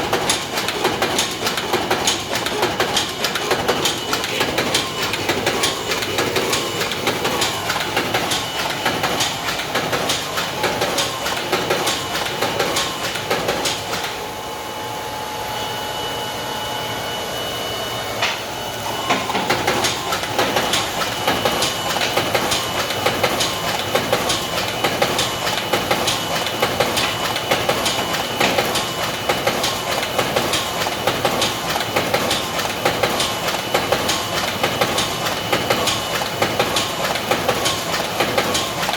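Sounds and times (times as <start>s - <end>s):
folding machine clattering: 0.0s - 14.2s, 19.1s - 38.9s
steady machine hum: 0.0s - 38.9s.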